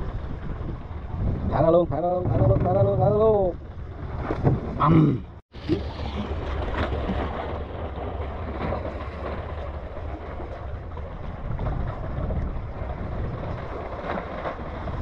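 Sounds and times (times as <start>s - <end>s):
paddle splashing and water lapping: 0.0s - 15.0s
wind on microphone: 0.0s - 15.0s.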